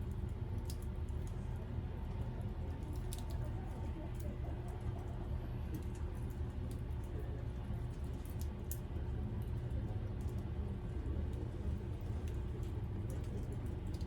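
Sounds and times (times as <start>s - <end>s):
wood fire crackling: 0.0s - 10.6s, 11.2s - 14.0s
low rumble of fire: 0.0s - 14.0s.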